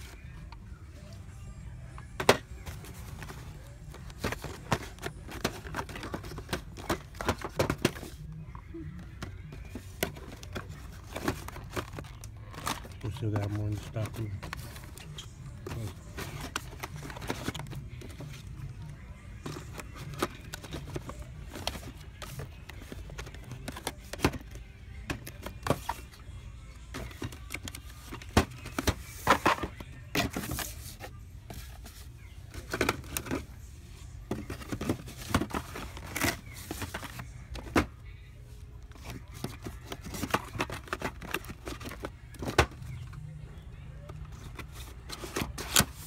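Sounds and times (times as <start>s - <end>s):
background music: 0.0s - 46.0s
boxed toy cars handled: 1.9s - 8.3s, 9.0s - 46.0s.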